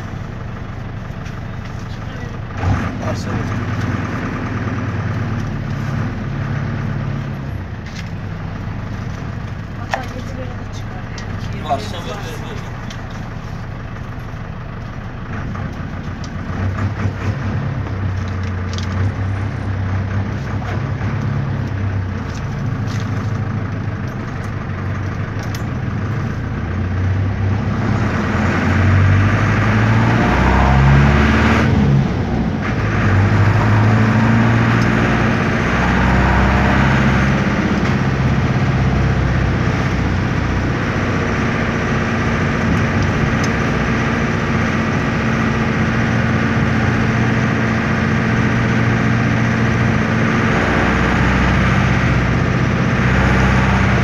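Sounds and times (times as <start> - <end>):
diesel engine from inside cabin: 0.0 - 54.0.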